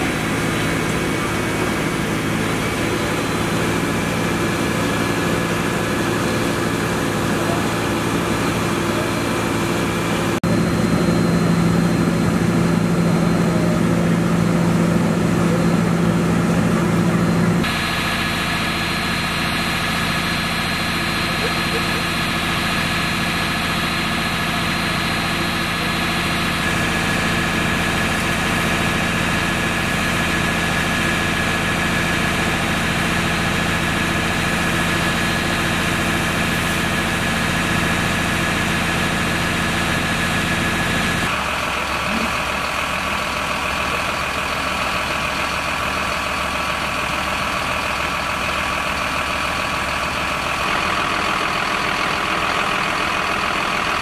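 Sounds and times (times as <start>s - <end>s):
diesel engine idling: 0.0s - 54.0s
different engine running: 0.0s - 54.0s.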